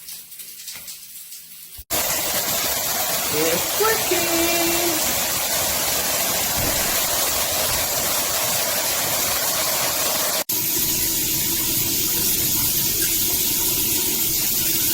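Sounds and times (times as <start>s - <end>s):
shower water spraying: 0.0s - 14.9s.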